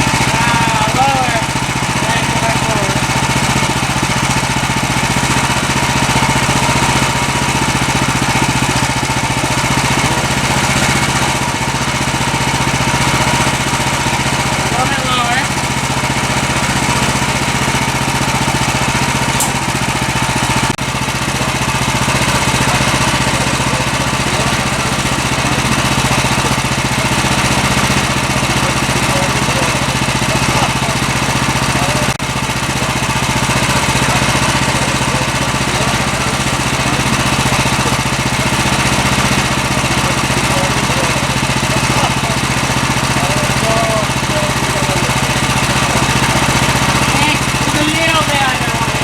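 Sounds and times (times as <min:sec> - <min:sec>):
small gasoline engine running: 0:00.0 - 0:49.0.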